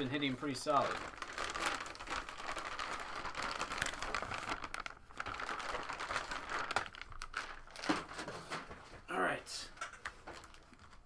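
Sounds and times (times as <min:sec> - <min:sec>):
plastic packaging crinkling: 0:00.0 - 0:08.8, 0:10.0 - 0:11.0.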